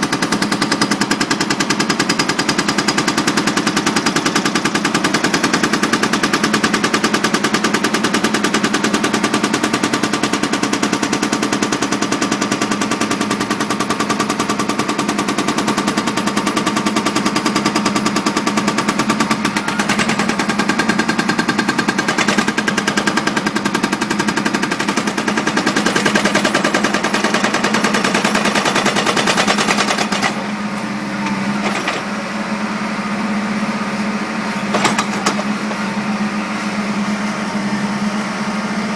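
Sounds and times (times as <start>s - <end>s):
hydraulic breaker hammering concrete: 0.0s - 32.2s, 34.6s - 36.2s
excavator engine hum: 0.0s - 38.9s.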